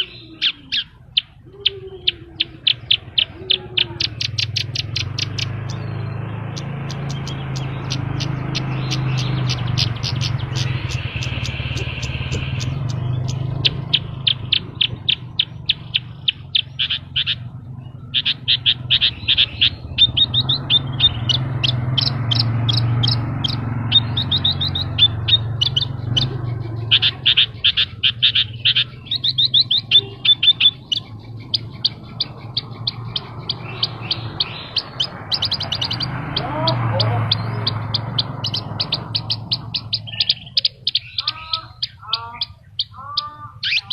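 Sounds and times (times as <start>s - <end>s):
bushlark singing rapid chirps: 0.0s - 43.9s.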